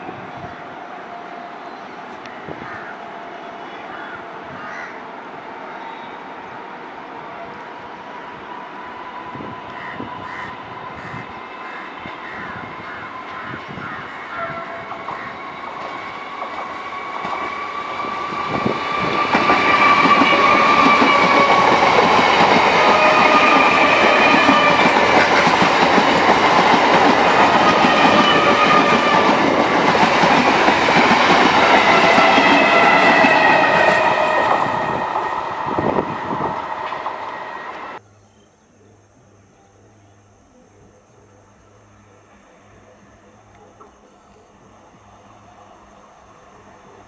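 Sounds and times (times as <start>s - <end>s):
electric train passing at speed: 0.0s - 38.0s, 44.4s - 47.0s.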